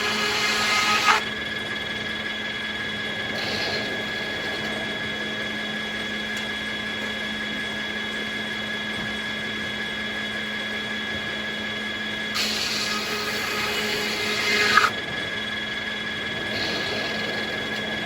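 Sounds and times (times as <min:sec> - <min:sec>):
circular saw humming and whining: 0:00.0 - 0:18.0.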